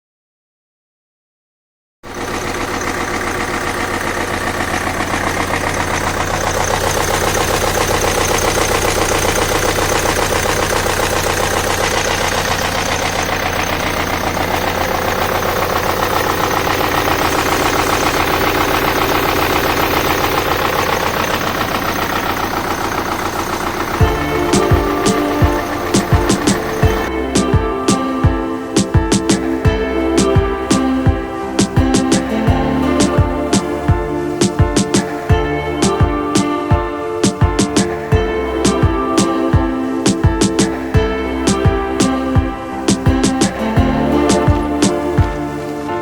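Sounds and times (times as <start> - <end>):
diesel engine knocking: 2.1 - 36.2, 39.6 - 45.5.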